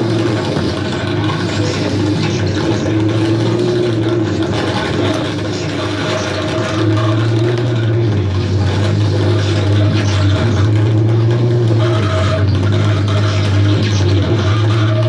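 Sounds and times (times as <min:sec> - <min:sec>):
dense electronic buzzing: 0:00.0 - 0:15.0.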